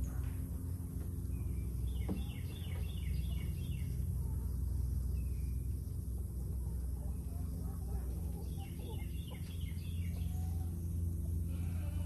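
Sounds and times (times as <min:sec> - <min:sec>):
low background rumble: 0:00.0 - 0:12.0
songbird chirping: 0:01.0 - 0:11.4.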